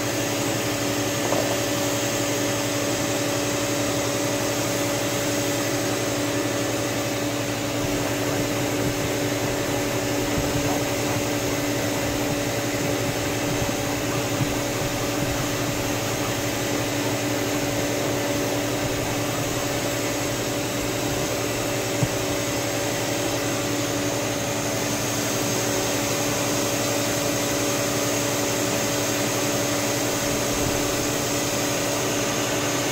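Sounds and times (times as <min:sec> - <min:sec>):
cleaning machine motor: 0:00.0 - 0:32.9.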